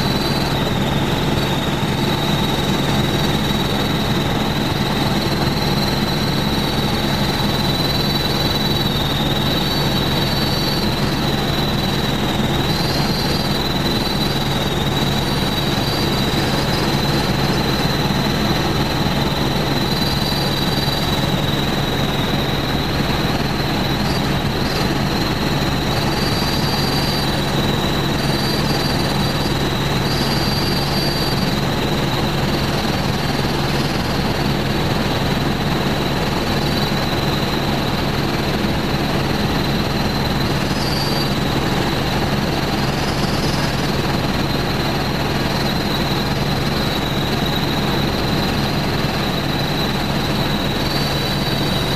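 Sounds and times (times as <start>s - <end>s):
helicopter engine and rotor: 0.0s - 51.9s
high-pitched whine: 0.0s - 51.9s.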